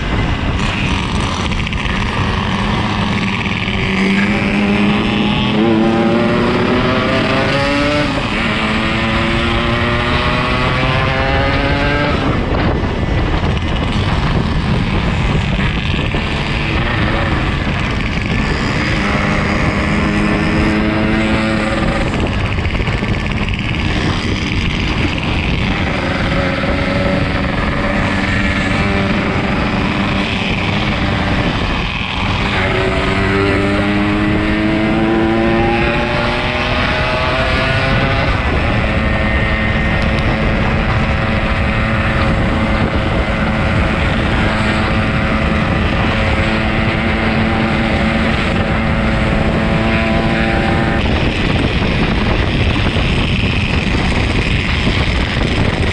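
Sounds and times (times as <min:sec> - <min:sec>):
motorcycle engine accelerating: 0:00.0 - 0:55.9
steady rushing noise: 0:00.0 - 0:55.9.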